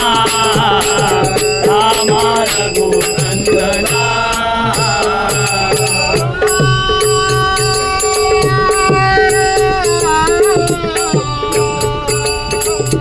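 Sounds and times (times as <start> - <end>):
devotional melody over drone: 0.0 - 13.0
drum strokes: 0.0 - 13.0
sharp high percussion strikes: 0.0 - 13.0.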